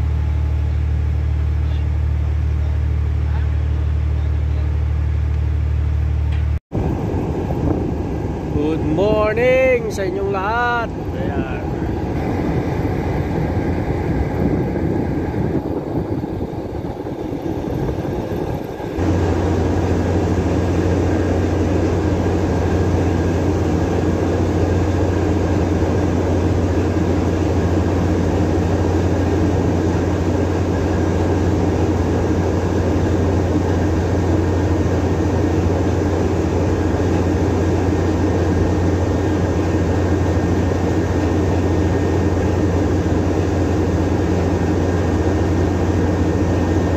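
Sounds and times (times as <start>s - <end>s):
ship engine drone: 0.0s - 46.9s.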